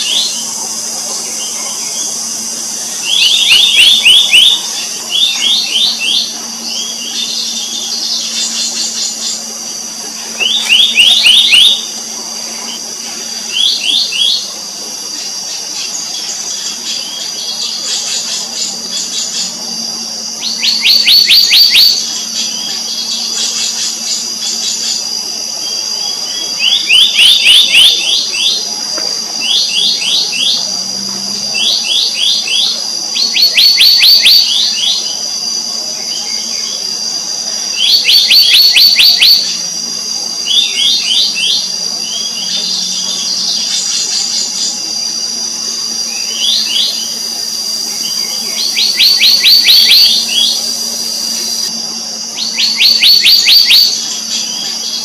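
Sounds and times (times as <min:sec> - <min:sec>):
high-pitched hum: 0:00.0 - 0:55.0.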